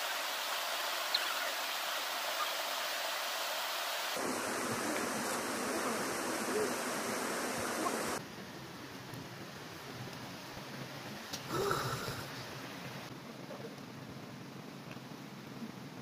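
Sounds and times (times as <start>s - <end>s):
fire hissing and crackling: 0.0s - 16.0s.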